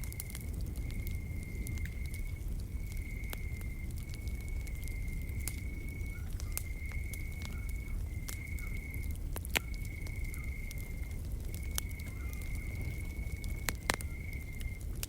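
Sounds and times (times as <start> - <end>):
low steady rumble: 0.0 - 15.0
wood fire crackling and popping: 0.0 - 15.0
insect trilling: 0.8 - 14.8.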